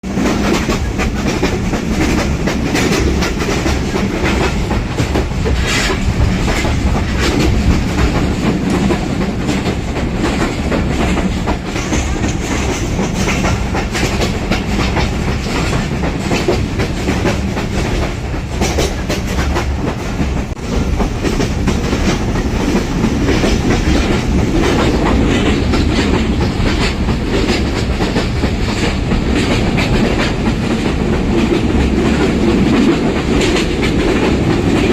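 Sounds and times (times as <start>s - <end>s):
train wheels clattering over rail joints: 0.0s - 34.9s.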